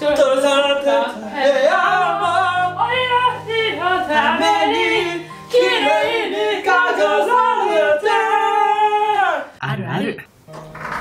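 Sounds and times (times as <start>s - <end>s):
men singing a cappella: 0.0s - 9.5s.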